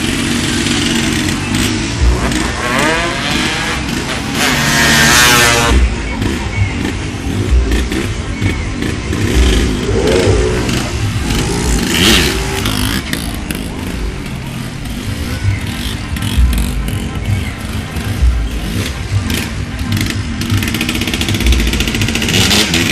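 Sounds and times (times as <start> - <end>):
motorcycles revving and passing: 0.0 - 22.9.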